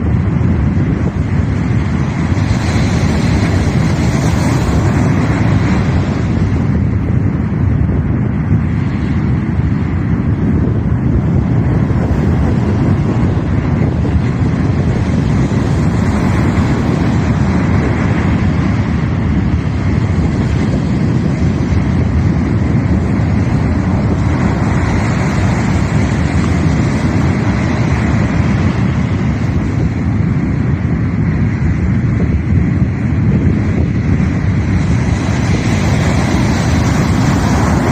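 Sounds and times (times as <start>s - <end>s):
sea surf washing: 0.0s - 37.9s
wind buffeting microphone: 0.0s - 37.9s.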